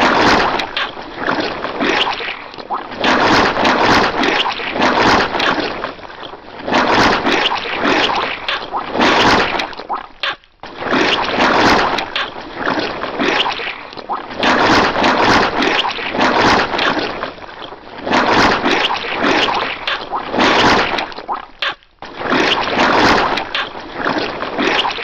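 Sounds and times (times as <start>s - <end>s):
wet squelching: 0.0s - 25.0s.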